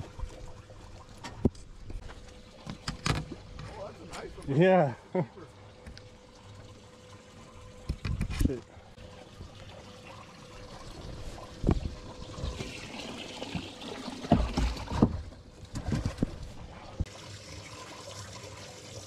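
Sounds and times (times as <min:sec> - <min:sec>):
water lapping against boat: 0:00.0 - 0:17.1.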